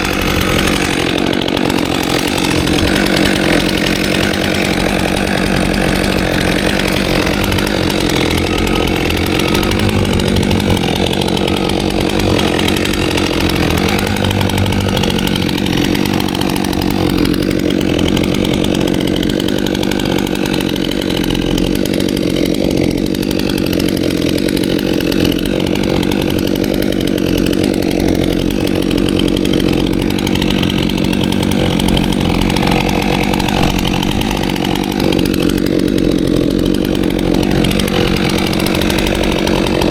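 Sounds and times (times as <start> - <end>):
chainsaw cutting through wood: 0.0 - 39.9.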